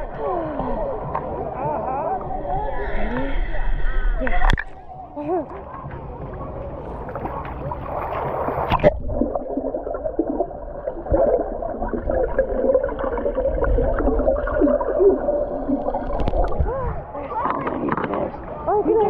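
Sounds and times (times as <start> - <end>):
underwater bubbling and gurgling: 0.0 - 18.7.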